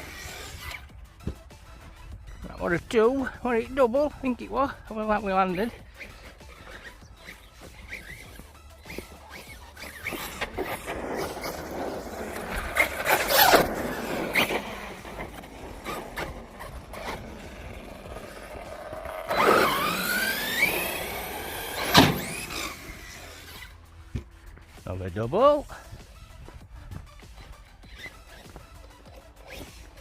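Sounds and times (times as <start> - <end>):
electric motor whining: 0.0 - 3.1, 4.2 - 24.3, 25.8 - 30.0
wheels rushing over concrete: 0.0 - 30.0.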